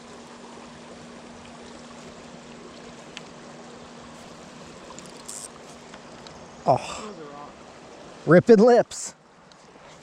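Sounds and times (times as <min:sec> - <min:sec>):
faint steady hum: 0:00.0 - 0:10.0
river water rushing: 0:00.0 - 0:10.0.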